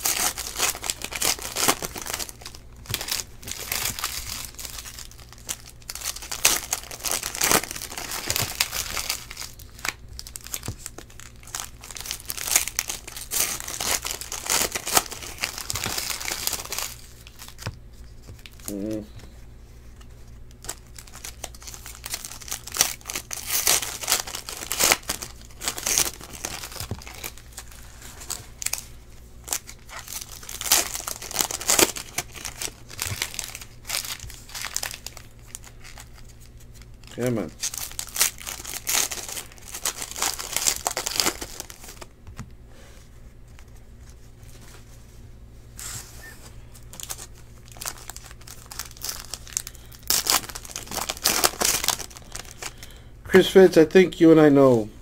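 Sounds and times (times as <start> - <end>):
foil wrappers crinkling and tearing: 0.0 - 19.1, 19.9 - 42.4, 46.1 - 54.5.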